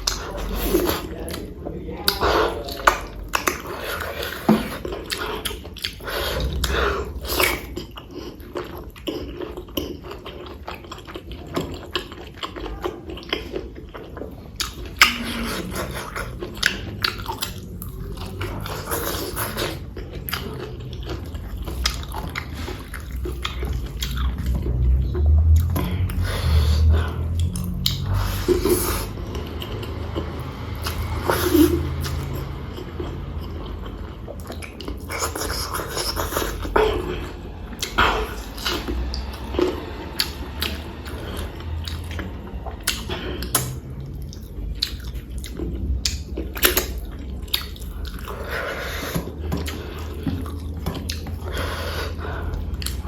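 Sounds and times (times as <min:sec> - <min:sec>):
chewing with mouth clicks: 0:00.0 - 0:53.0.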